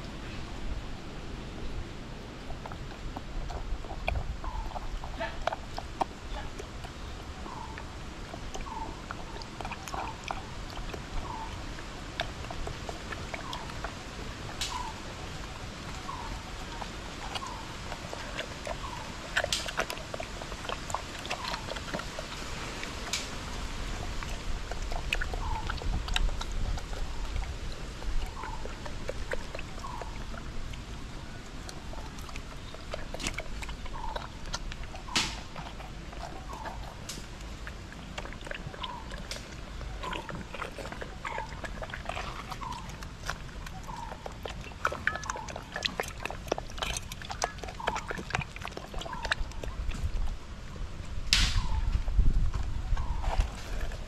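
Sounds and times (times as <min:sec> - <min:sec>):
goats slurping and eating: 0:00.0 - 0:54.0.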